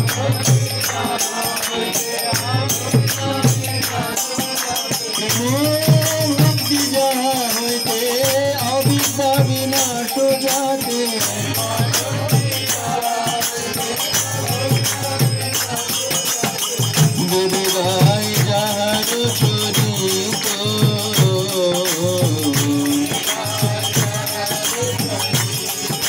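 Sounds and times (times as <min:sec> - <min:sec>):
hand cymbals struck: 0:00.0 - 0:26.0
man singing into a microphone: 0:00.0 - 0:26.0.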